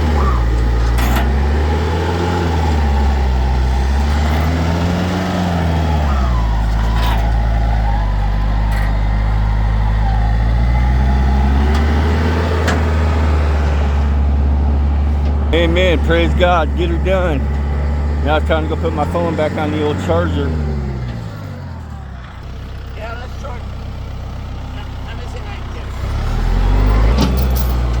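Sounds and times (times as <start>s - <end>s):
vehicle engine running at low revs: 0.0s - 28.0s.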